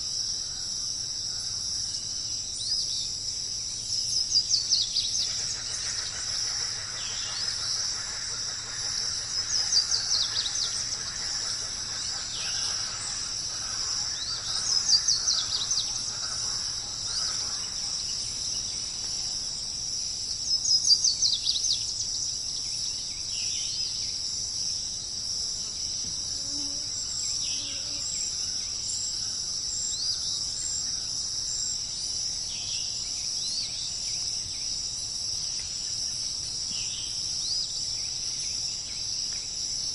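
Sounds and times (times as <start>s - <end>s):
crickets chirping: 0.0s - 39.9s
songbird trill: 0.0s - 39.9s.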